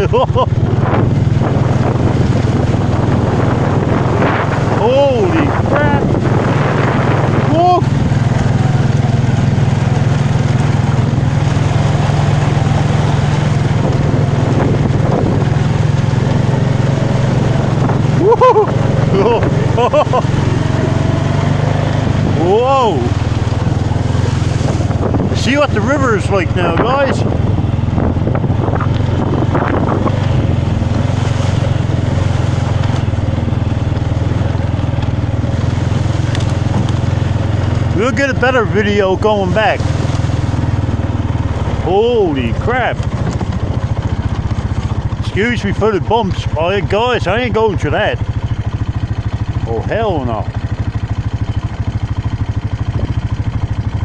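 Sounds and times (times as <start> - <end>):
small vehicle engine running steadily: 0.0 - 54.0.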